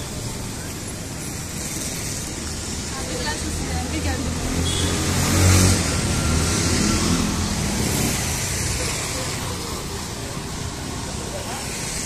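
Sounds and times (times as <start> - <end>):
road noise hiss: 0.0 - 12.0
vehicle engine passing: 1.5 - 11.6.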